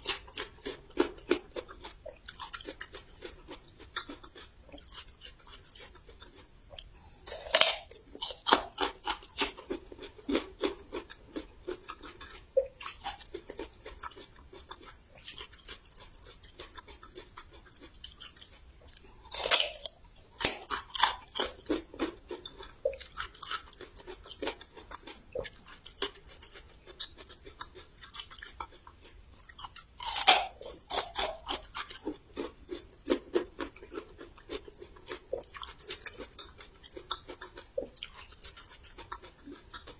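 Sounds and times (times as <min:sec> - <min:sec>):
loud crunchy chewing: 0:00.0 - 0:39.9.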